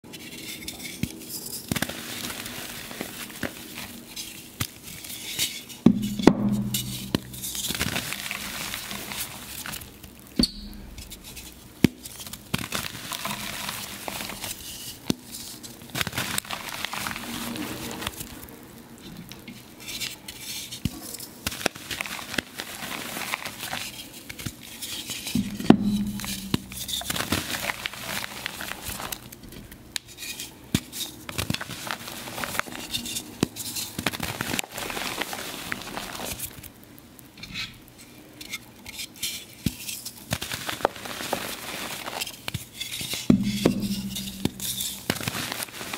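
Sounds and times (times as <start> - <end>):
wet chalk crunching and crackling: 0.0 - 36.9, 37.8 - 45.9.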